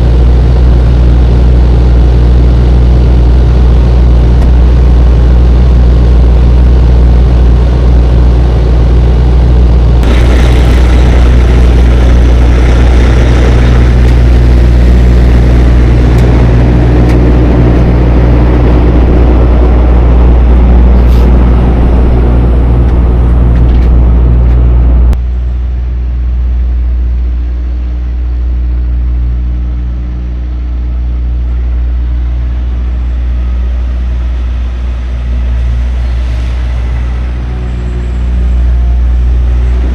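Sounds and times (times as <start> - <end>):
road noise: 0.0 - 25.2, 31.5 - 39.9
truck diesel engine drone: 0.0 - 39.9.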